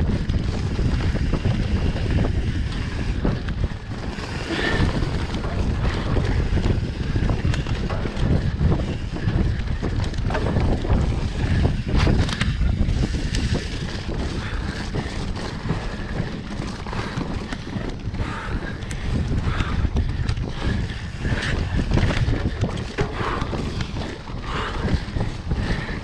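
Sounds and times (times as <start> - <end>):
bike knocking over rough ground: 0.0 - 26.0
dirt bike engine: 0.0 - 26.0
wind buffeting microphone: 0.0 - 26.0.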